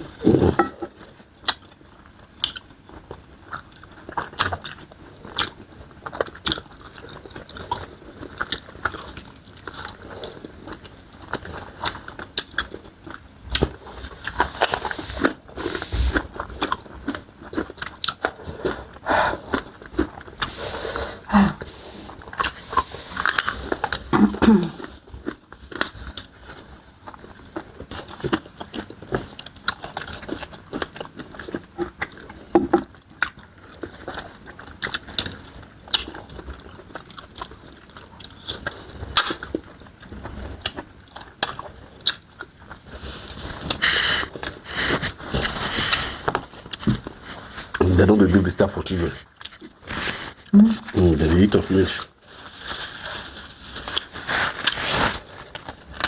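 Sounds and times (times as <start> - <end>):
people chewing and biting: 0.0 - 56.0.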